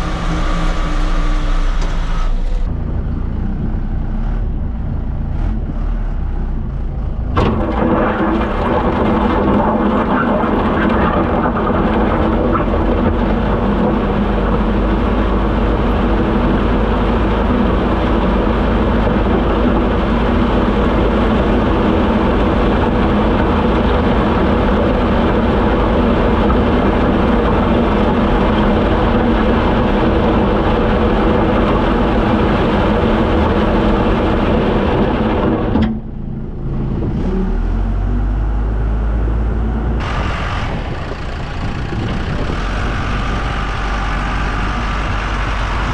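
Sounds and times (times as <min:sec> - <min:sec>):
deep engine rumble: 0:00.0 - 0:45.9
heavy vehicle engine running: 0:00.0 - 0:45.9.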